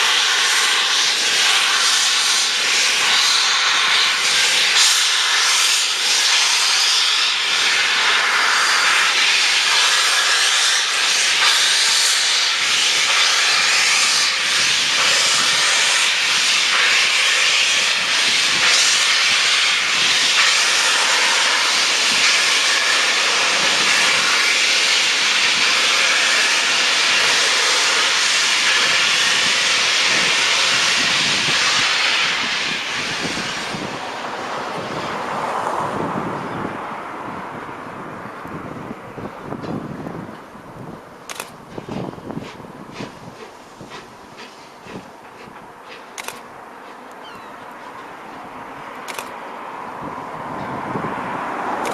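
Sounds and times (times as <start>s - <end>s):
steam locomotive venting steam: 0.0s - 51.9s.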